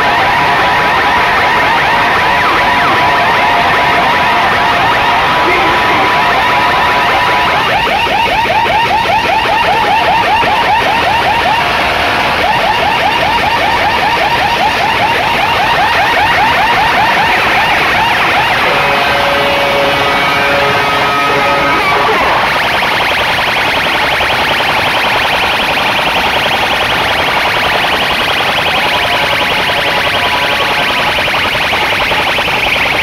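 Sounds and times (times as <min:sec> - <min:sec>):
distorted siren-like effect: 0:00.0 - 0:33.0.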